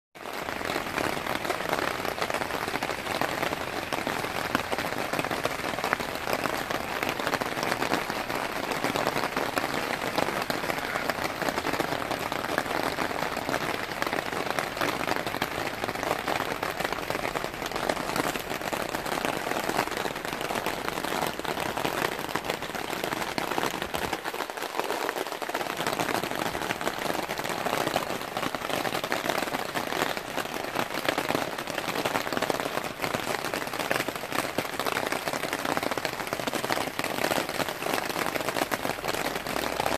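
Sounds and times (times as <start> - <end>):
rain on fabric canopies: 0.2 - 39.9.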